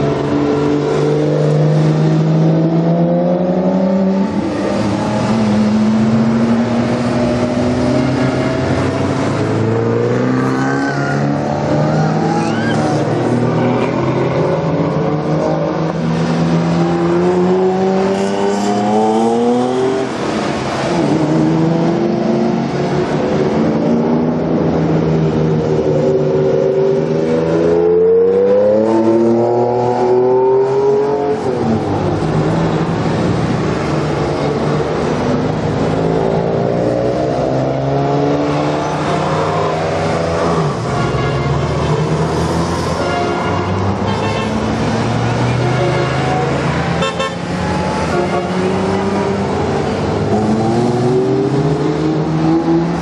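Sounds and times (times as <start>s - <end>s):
cars accelerating past: 0.0s - 40.9s, 41.6s - 53.0s.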